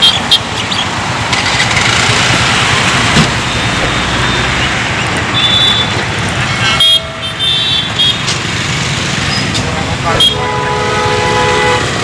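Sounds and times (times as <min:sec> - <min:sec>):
car and motorbike engines passing: 0:00.0 - 0:12.0.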